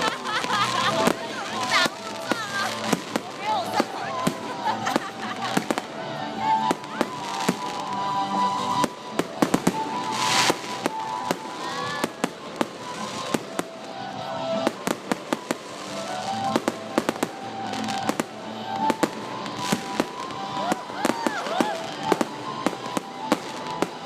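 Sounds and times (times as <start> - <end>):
fireworks bangs and crackling: 0.0 - 24.0
fireworks hissing rush: 0.0 - 24.0
music: 0.0 - 24.0.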